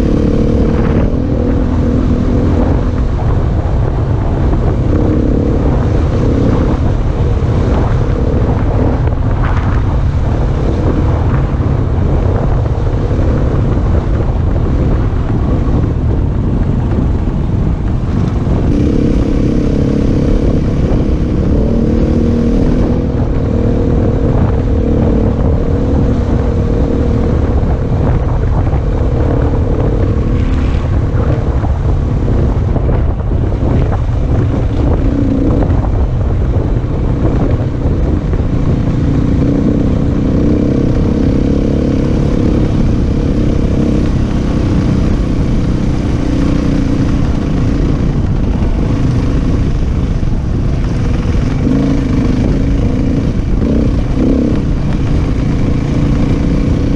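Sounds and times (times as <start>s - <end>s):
dirt bike engine running: 0.0s - 56.9s
wind buffeting microphone: 0.0s - 56.9s.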